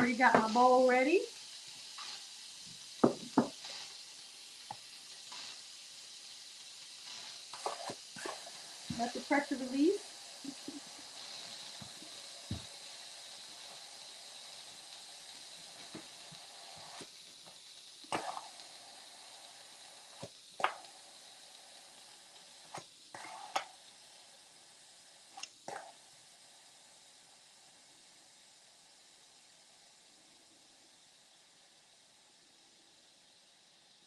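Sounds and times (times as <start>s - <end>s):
pressure cooker steam hiss: 0.0s - 34.0s.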